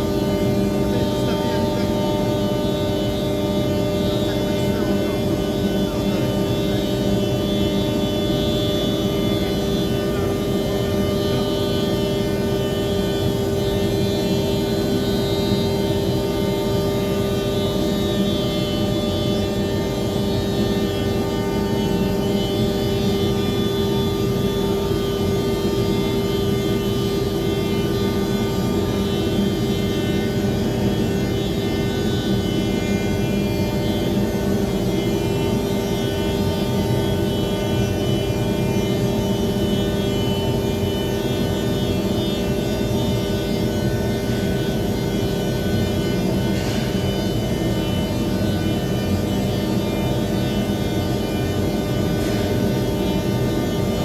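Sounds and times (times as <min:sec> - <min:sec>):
machine hum with held tones: 0:00.0 - 0:54.0.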